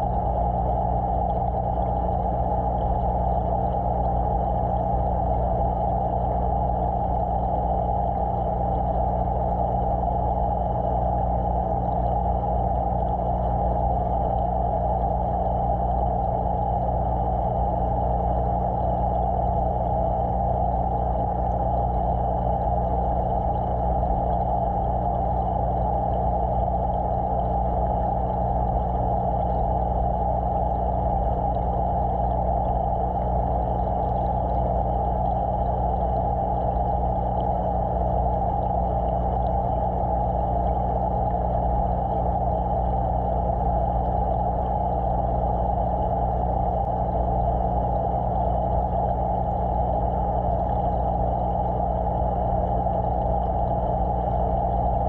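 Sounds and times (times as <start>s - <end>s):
aquarium equipment motor hum: 0.0s - 55.0s.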